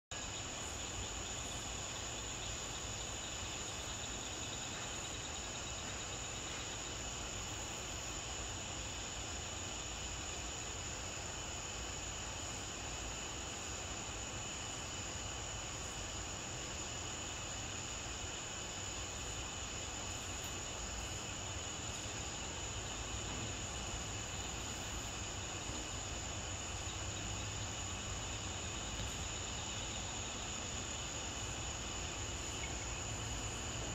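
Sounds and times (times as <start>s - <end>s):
crickets trilling: 0.1s - 33.9s.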